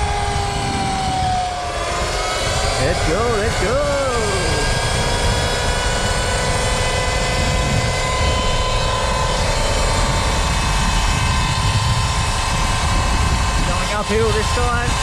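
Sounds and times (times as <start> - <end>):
electric motor whine: 0.0 - 15.0
wind buffeting microphone: 0.0 - 15.0.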